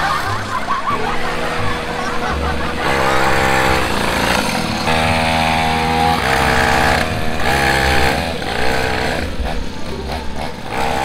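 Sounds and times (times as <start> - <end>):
small engines revving: 0.0 - 11.0.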